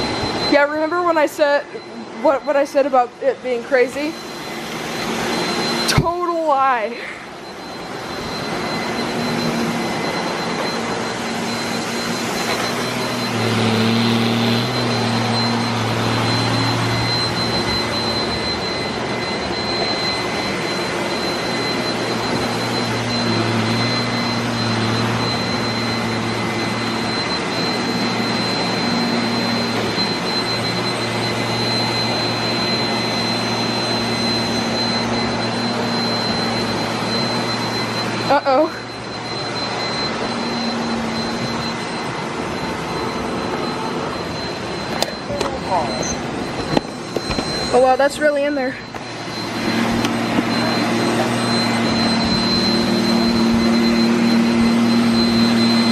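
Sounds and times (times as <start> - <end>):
high-pitched whine: 0.0 - 55.9
robot vacuums whirring: 0.0 - 55.9.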